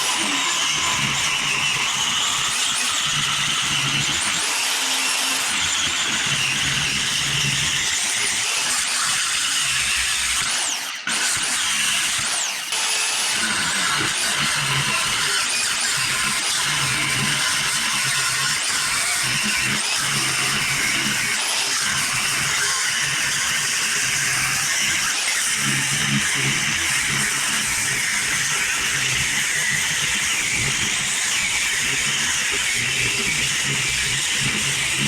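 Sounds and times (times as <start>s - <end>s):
power tool running under load: 0.0s - 35.0s.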